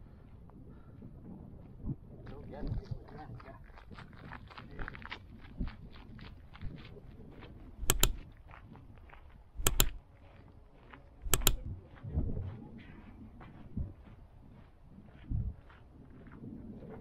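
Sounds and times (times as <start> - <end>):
footsteps crunching on gravel: 2.3 - 17.0.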